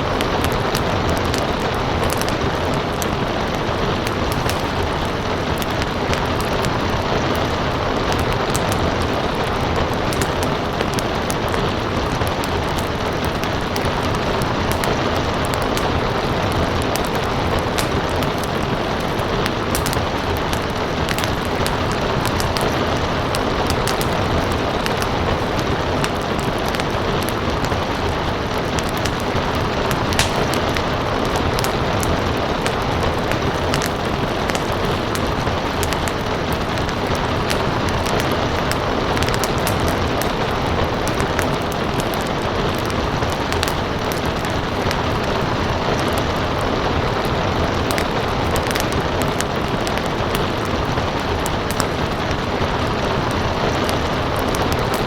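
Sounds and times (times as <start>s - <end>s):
rain hissing: 0.0s - 55.0s
wood fire crackling: 0.0s - 55.0s.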